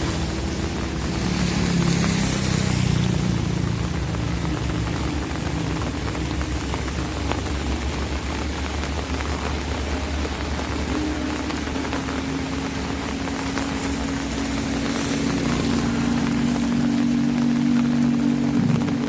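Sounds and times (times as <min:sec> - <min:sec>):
rain pattering on an umbrella: 0:00.0 - 0:19.0
vehicle engine hum: 0:00.0 - 0:19.0.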